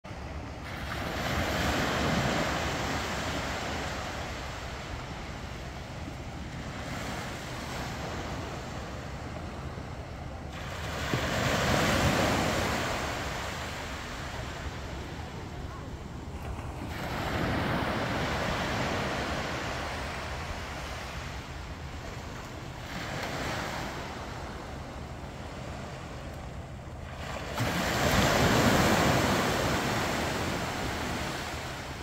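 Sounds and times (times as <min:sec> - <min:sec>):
small waves washing on beach: 0:00.1 - 0:32.0.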